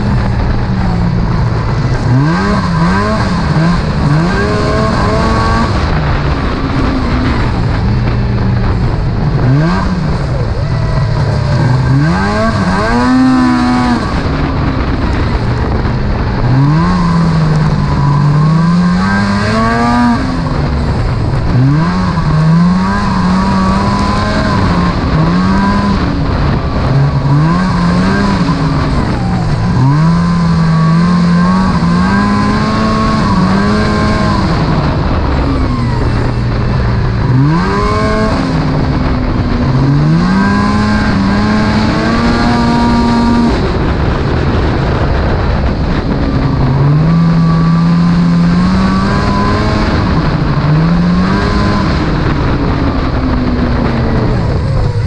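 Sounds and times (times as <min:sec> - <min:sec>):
snowmobile engine revving: 0:00.0 - 0:55.0
wind and track noise: 0:00.0 - 0:55.0.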